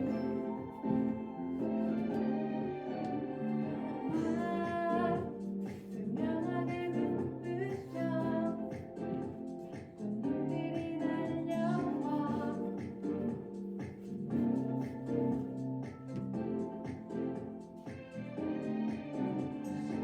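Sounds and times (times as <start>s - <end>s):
song with instrumental backing: 0.0s - 20.0s.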